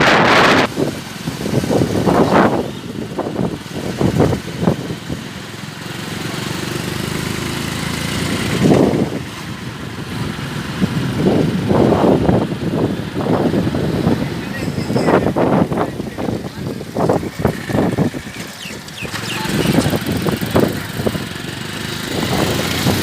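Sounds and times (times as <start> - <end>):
wind gusting against microphone: 0.0 - 5.4, 7.2 - 23.0
engine humming: 0.0 - 23.0.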